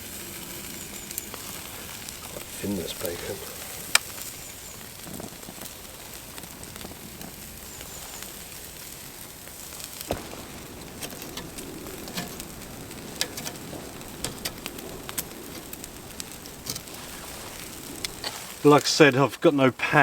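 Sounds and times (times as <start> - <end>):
bacon sizzling over a campfire: 0.0 - 20.0
sharp pops and crackles: 0.0 - 20.0.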